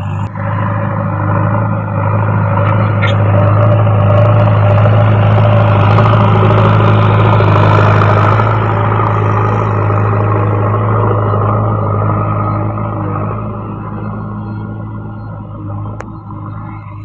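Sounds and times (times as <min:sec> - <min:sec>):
diesel engine running: 0:00.0 - 0:17.0
loader bucket pushing soil: 0:00.0 - 0:17.0.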